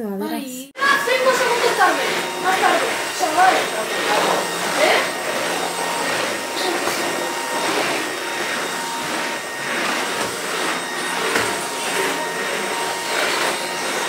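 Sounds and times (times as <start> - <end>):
stick vacuum cleaner whining: 0.8 - 14.0.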